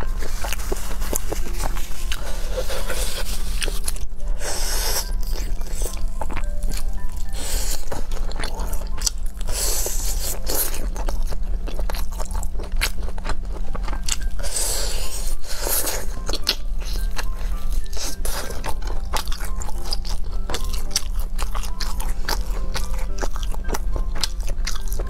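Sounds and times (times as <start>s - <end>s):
person eating crunchy meat: 0.0s - 25.0s.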